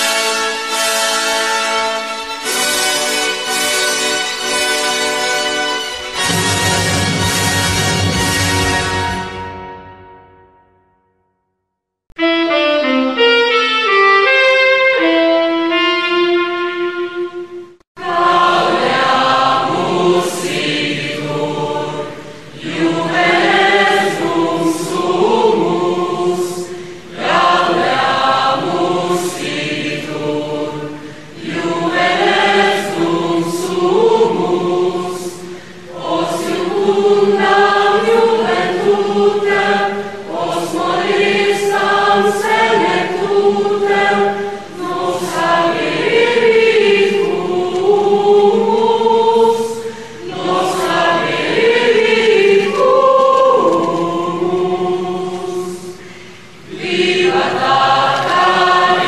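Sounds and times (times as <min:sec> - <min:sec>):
choir singing: 0:00.0 - 0:10.2, 0:12.6 - 0:59.0.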